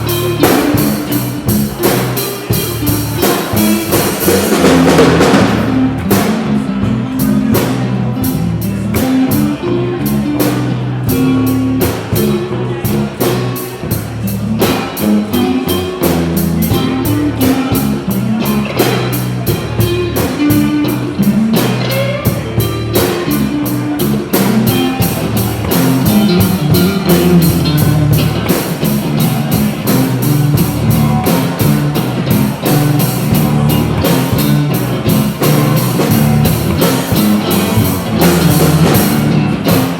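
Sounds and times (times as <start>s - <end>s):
rock music on guitar and drums: 0.0s - 39.9s.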